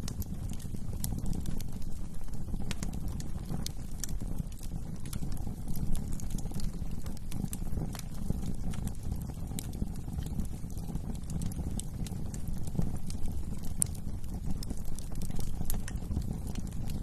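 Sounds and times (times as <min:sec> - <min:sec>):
low rush of flames: 0:00.0 - 0:17.0
wood fire crackling: 0:00.0 - 0:17.0.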